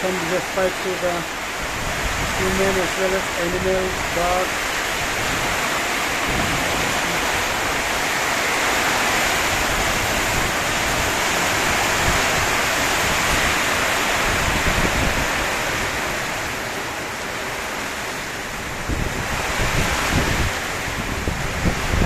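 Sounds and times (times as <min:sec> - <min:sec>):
heavy rain pouring: 0:00.0 - 0:22.0
wind rumbling on microphone: 0:00.0 - 0:22.0.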